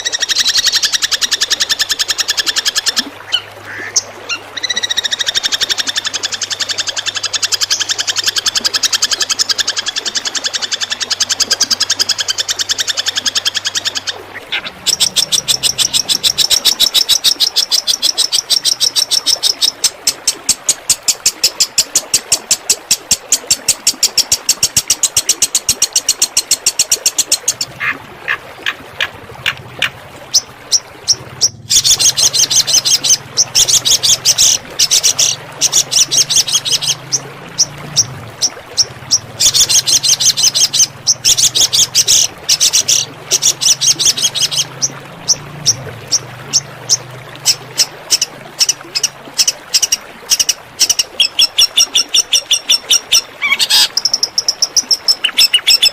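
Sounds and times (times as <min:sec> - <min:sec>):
songbird singing rapid high notes: 0:00.0 - 0:20.4, 0:25.9 - 0:55.9.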